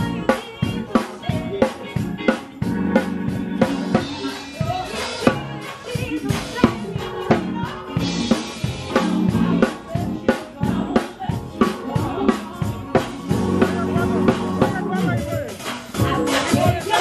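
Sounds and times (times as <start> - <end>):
bass guitar line: 0.0 - 17.0
drum kit beat: 0.0 - 17.0
live band playing: 0.0 - 17.0.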